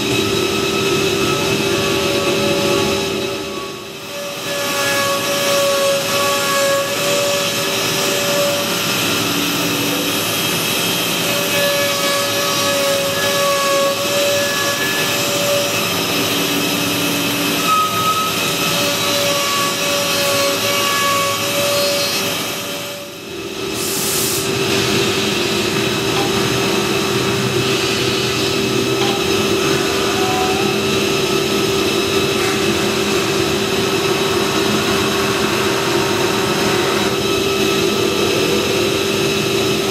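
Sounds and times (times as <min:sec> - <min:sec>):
machine whining tones: 0:00.0 - 0:39.9
woodworking machinery humming: 0:00.0 - 0:39.9.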